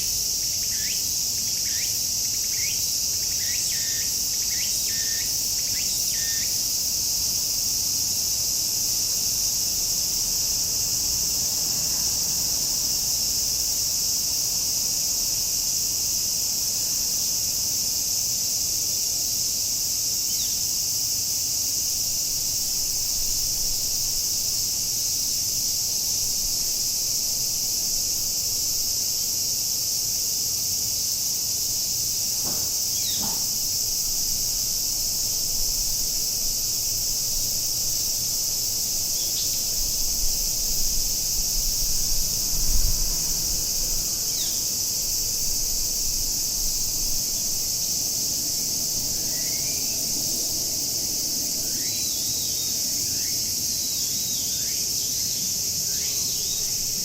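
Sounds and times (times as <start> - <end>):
cicadas shrilling: 0.0 - 57.0.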